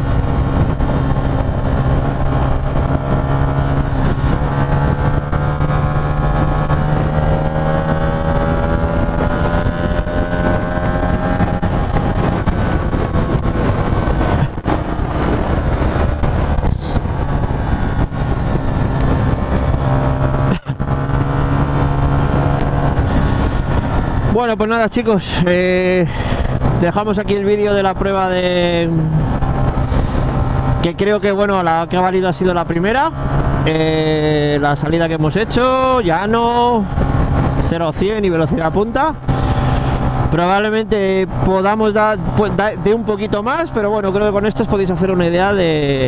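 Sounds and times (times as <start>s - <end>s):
motorcycle engine accelerating: 0.0s - 25.0s, 25.6s - 46.0s
wind and road noise: 0.0s - 46.0s.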